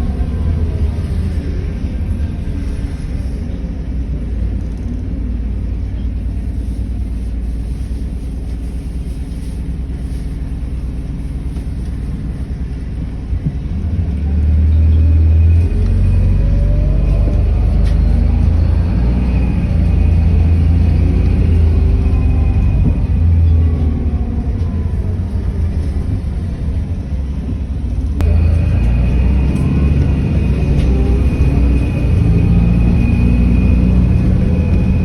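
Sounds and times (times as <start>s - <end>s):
rising engine whine: 0.0s - 6.3s, 9.4s - 35.0s
bus engine and road rumble: 0.0s - 35.0s.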